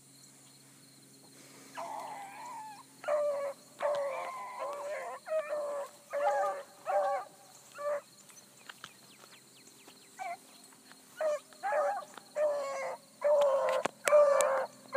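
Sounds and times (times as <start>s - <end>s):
hounds baying: 1.6s - 8.8s, 9.8s - 14.9s.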